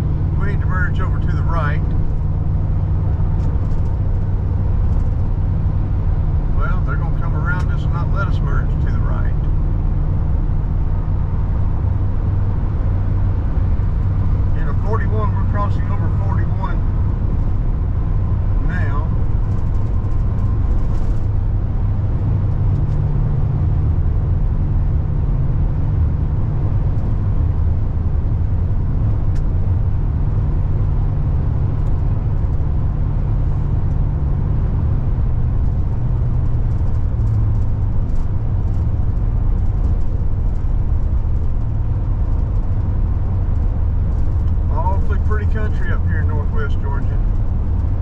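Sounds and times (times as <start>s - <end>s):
car road and engine noise: 0.0s - 48.0s.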